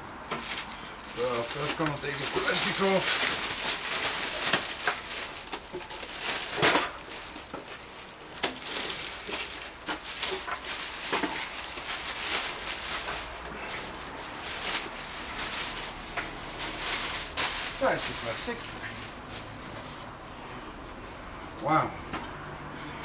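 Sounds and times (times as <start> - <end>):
plastic wrap crinkling: 0.3 - 19.7.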